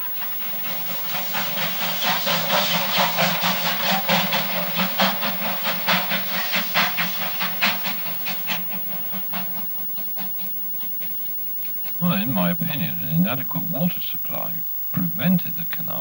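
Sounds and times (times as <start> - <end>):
steam hiss: 0.0 - 16.0
steam train chuffing: 0.0 - 16.0.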